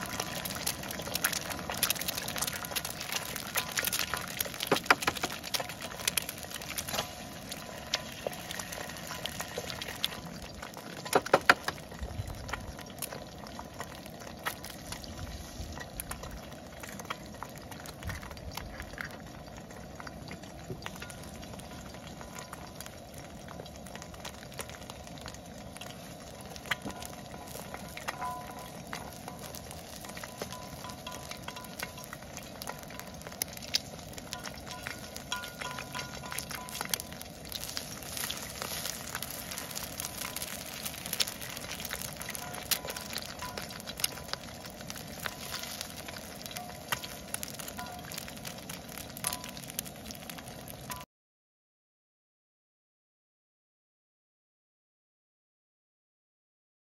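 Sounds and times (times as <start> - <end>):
eggs sizzling with pops: 0.0 - 51.1.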